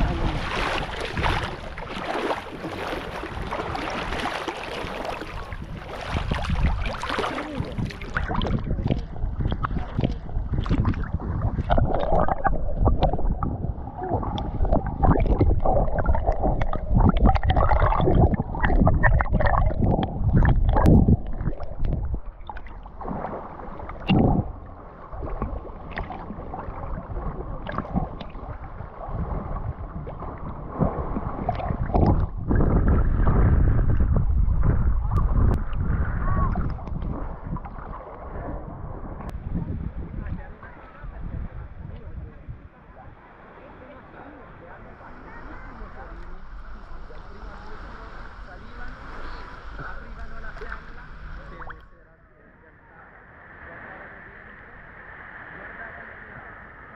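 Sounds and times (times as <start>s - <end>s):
sea water sloshing and splashing: 0.0s - 39.4s, 42.9s - 51.9s.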